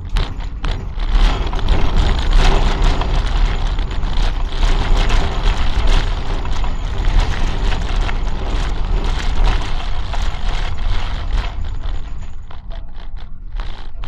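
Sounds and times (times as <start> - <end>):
clicks and knocks of track: 0.0 - 14.0
tram wheels rumbling on rails: 0.0 - 14.0.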